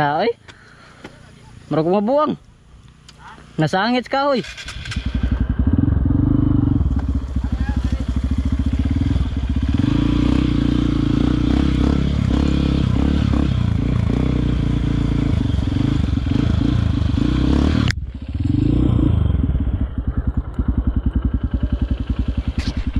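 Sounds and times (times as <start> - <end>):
dirt bike engine running: 2.8 - 22.9.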